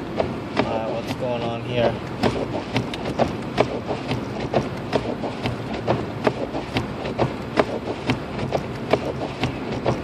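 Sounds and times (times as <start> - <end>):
road noise: 0.0 - 10.0
ticking in car cabin: 0.0 - 10.0.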